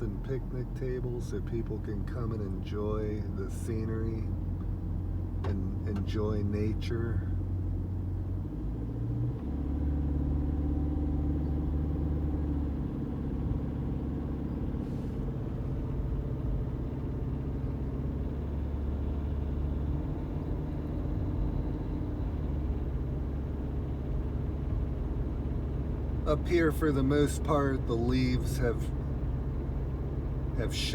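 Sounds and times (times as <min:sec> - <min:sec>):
car engine and tyre rumble: 0:00.0 - 0:30.9.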